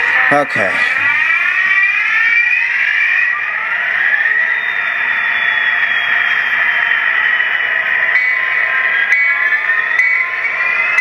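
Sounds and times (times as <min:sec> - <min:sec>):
high-pitched electronic engine whine: 0:00.0 - 0:11.0.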